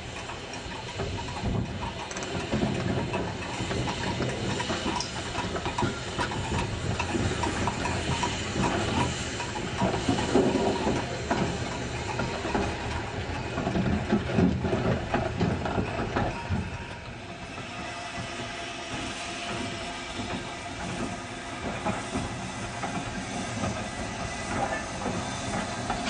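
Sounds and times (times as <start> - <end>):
locomotive clanks and knocks: 0.0 - 26.0
steam hissing: 0.0 - 26.0.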